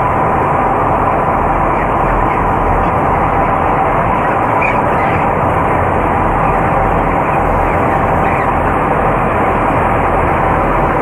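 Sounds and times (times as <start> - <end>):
exhaust fans droning: 0.0 - 11.0.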